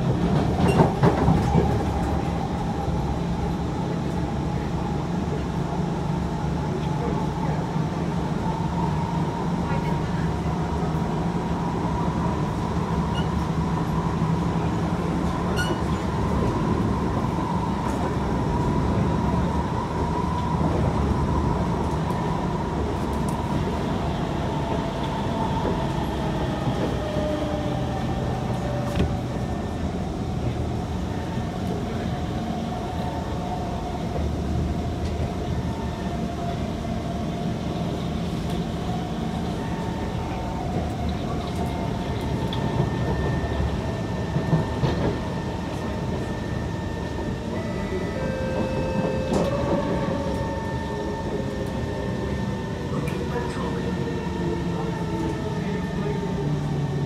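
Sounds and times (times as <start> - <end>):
thin train whine: 0.0 - 57.0.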